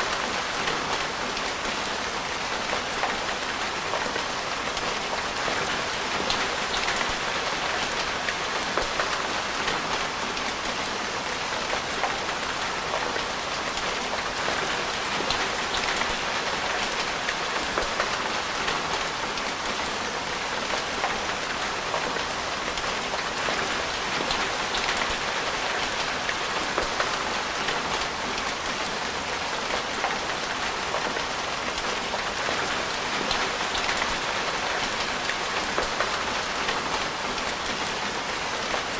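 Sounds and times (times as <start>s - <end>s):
rain on hard surfaces: 0.0s - 38.9s.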